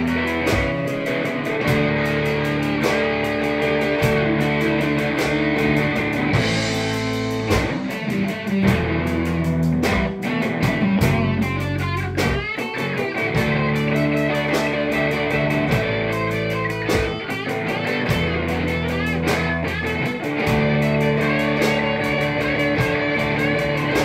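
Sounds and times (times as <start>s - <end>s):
bass guitar: 0.0s - 24.0s
drum kit with cymbal strokes: 0.0s - 24.0s
electric guitars: 0.0s - 24.0s.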